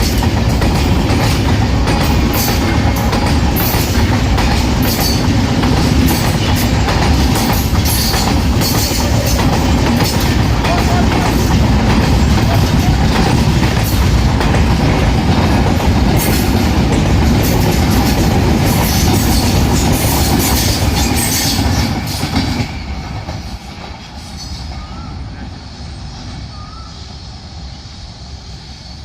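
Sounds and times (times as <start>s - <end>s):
train passing at speed: 0.0s - 29.0s.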